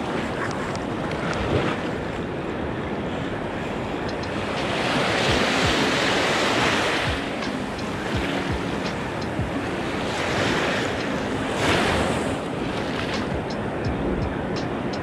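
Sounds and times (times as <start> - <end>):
small waves breaking on shore: 0.0 - 15.0.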